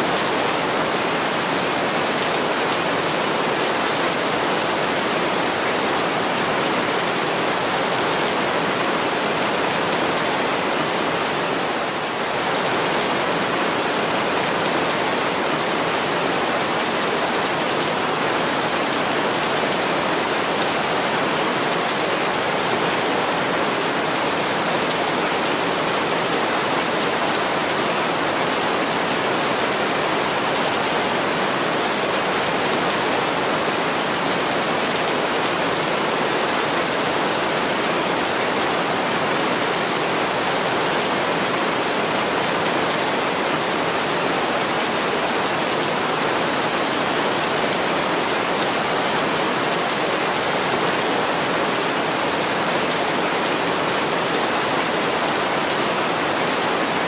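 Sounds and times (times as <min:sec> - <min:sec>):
heavy rain against a window: 0:00.0 - 0:57.0.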